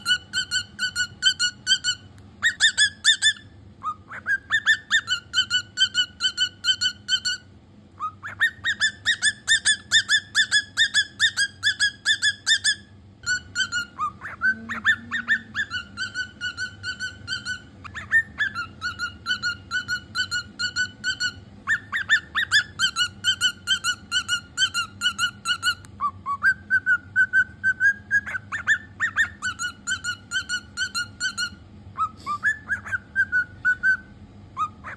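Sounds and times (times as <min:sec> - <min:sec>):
cockatiel whistling: 0:00.0 - 0:34.9.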